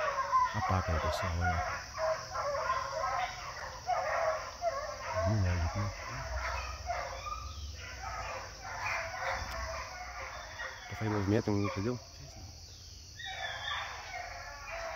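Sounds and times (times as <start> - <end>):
hounds baying and howling: 0.0 - 14.9.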